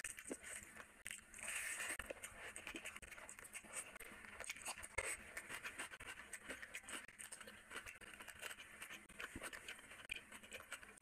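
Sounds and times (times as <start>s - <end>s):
chewing and wet mouth smacking: 0.0s - 11.0s.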